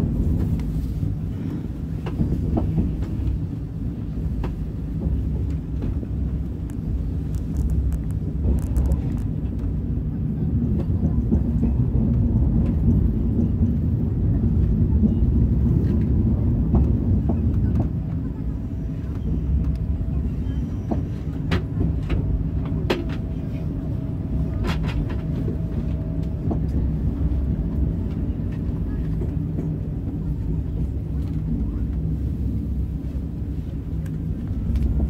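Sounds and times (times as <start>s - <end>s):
train low rumble: 0.0s - 35.0s.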